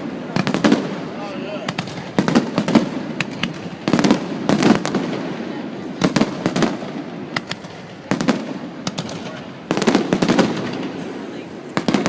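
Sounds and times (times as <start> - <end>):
fireworks bangs: 0.0 - 12.0
fireworks rumble: 0.0 - 12.0.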